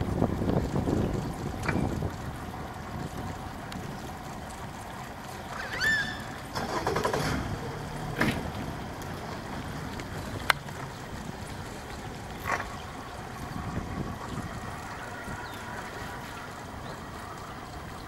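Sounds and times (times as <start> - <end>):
wind and water noise: 0.0 - 18.0.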